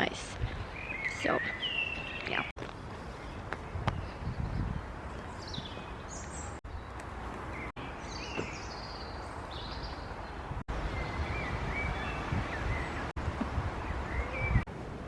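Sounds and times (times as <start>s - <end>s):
birds chirping and calling: 0.0s - 14.6s.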